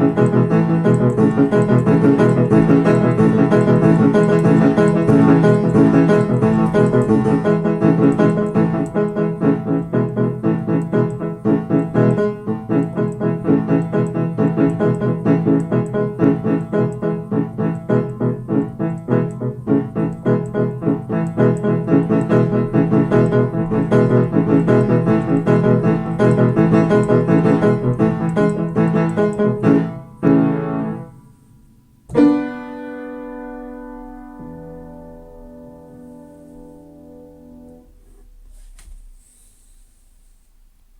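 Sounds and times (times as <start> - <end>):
ringing piano chord: 0.0 - 38.0
fast piano run: 0.0 - 38.5.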